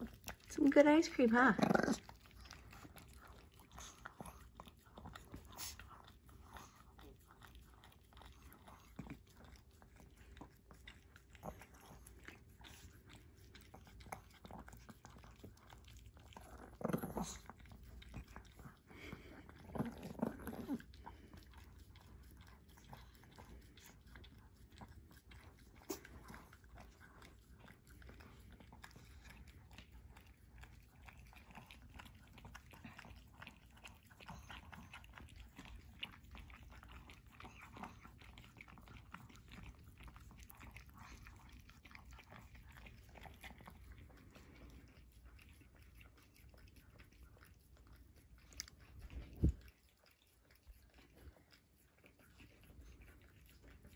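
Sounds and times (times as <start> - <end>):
puppies licking ice cream: 0.0 - 53.9.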